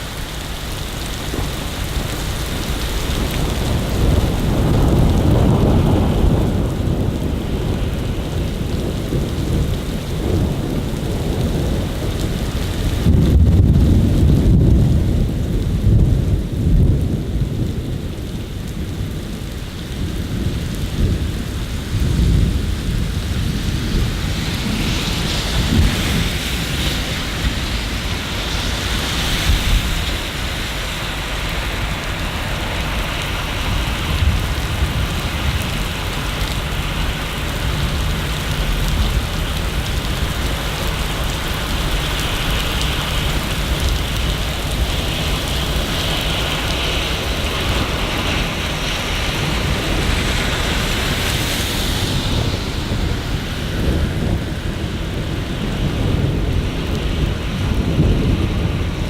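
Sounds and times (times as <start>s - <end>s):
rolling thunder: 0.0s - 59.0s
steady rain: 0.0s - 59.0s.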